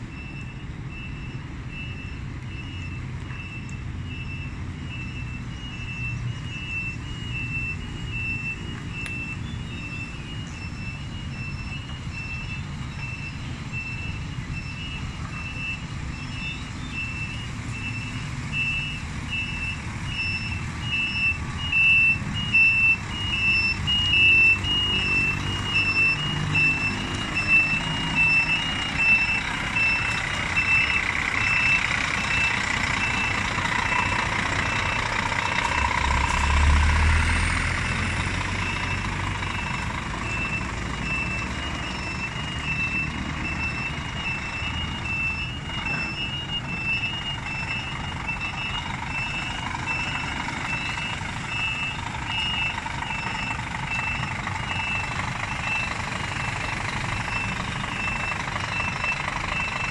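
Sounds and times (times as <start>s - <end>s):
diesel engine running: 0.0s - 59.9s
truck reversing alarm beeping: 0.0s - 59.9s.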